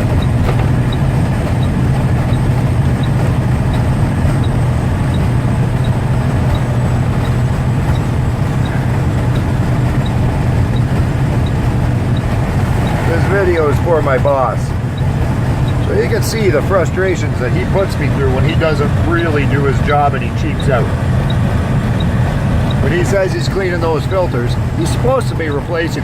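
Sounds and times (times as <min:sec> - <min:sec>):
truck engine and tyres droning: 0:00.0 - 0:26.0.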